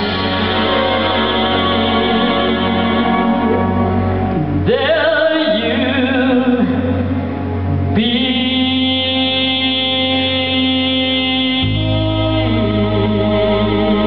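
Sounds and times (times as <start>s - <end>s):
instrumental accompaniment chords: 0.0s - 14.0s.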